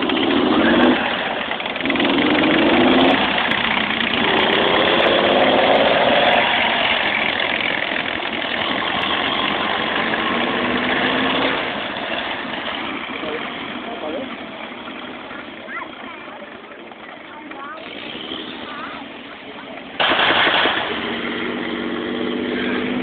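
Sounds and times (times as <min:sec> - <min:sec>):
military vehicle engine revving: 0:00.0 - 0:23.0.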